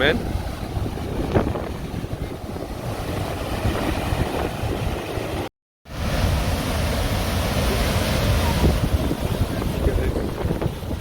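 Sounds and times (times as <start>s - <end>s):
river water rushing: 1.6s - 11.0s.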